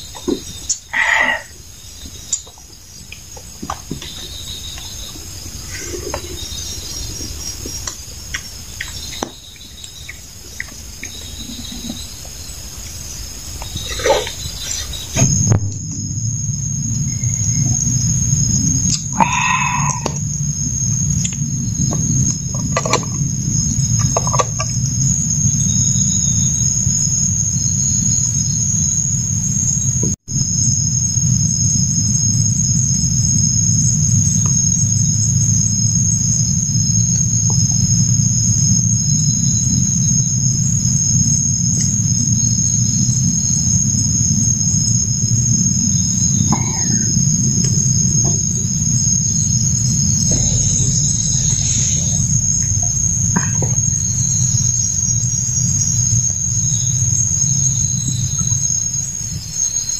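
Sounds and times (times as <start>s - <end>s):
night insects trilling: 0.0s - 59.9s
low background rumble: 9.8s - 59.9s.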